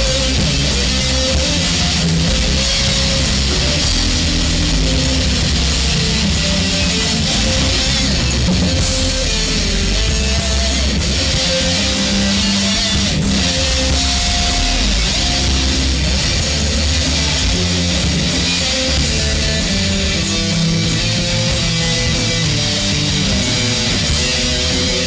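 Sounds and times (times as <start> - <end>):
drum kit: 0.0 - 25.0
electric guitars: 0.0 - 25.0.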